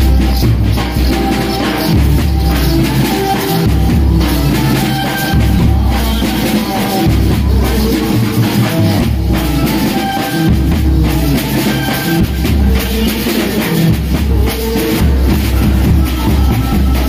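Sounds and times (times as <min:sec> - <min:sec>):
music with heavy drum beat: 0:00.0 - 0:17.0.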